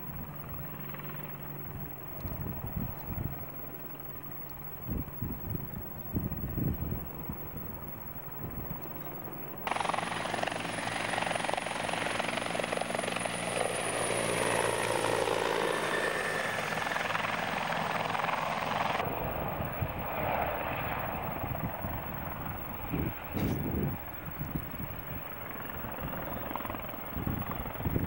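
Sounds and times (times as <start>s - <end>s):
distant helicopter flying: 0.0s - 28.0s
helicopter turbine and rotor noise: 0.0s - 28.0s
high-pitched turbine whine: 0.0s - 28.0s.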